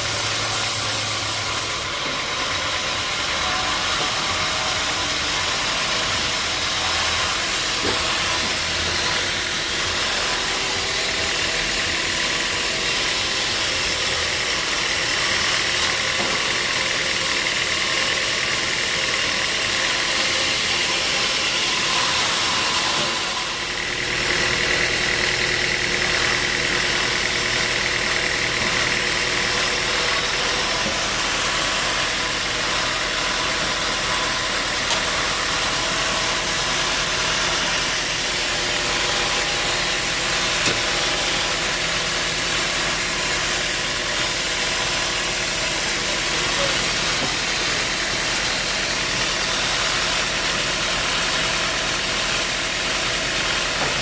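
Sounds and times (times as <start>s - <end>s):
sawmill engine droning: 0.0s - 54.0s.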